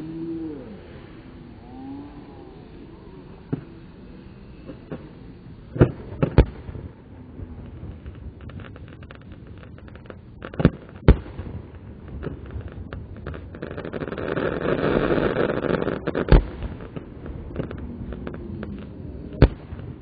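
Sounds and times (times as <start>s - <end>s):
rush of noise: 0.0s - 20.0s
fireworks bangs: 2.6s - 20.0s.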